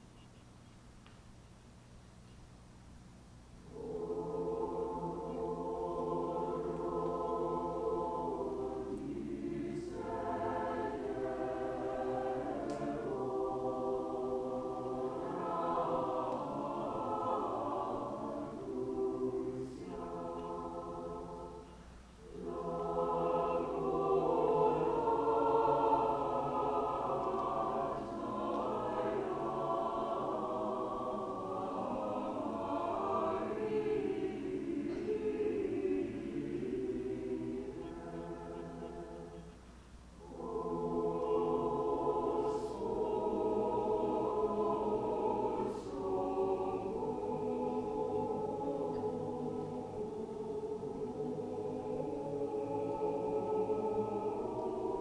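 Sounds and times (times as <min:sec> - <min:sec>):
mixed choir singing: 0:03.6 - 0:55.0.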